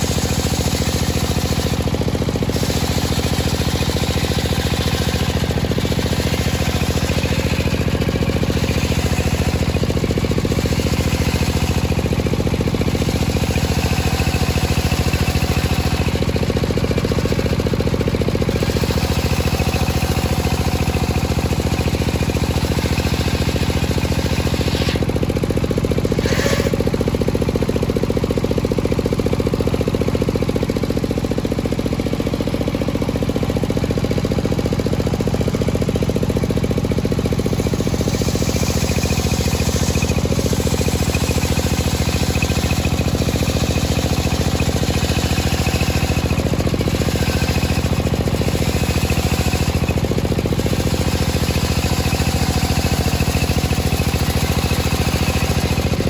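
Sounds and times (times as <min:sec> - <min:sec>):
circular saw cutting wood: 0:00.0 - 0:56.0.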